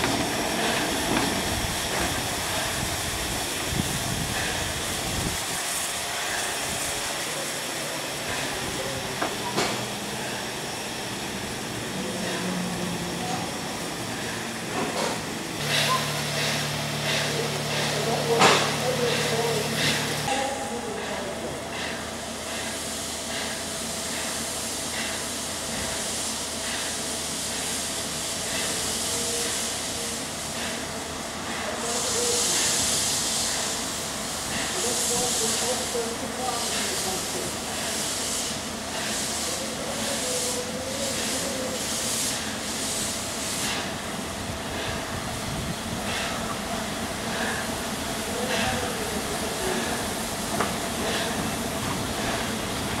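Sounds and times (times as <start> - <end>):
steam locomotive hissing: 0.0 - 53.0
train rumble: 0.0 - 53.0.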